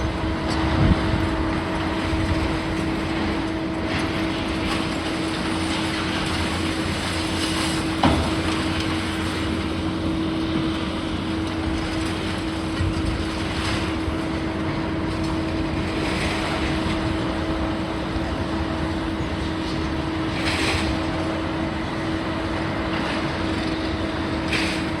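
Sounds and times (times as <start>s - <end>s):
demolition machinery engine hum: 0.0s - 25.0s.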